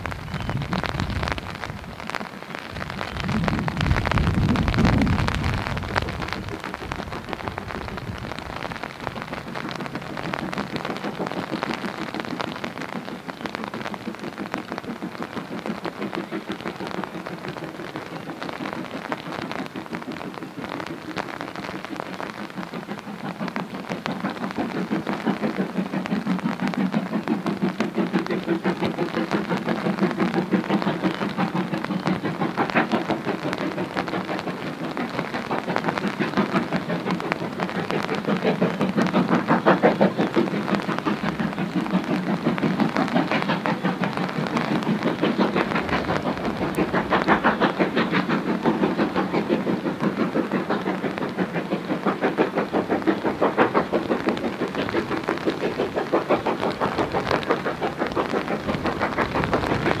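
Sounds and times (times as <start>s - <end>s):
steady rain: 0.0s - 60.0s
steam locomotive exhaust beat: 0.0s - 60.0s.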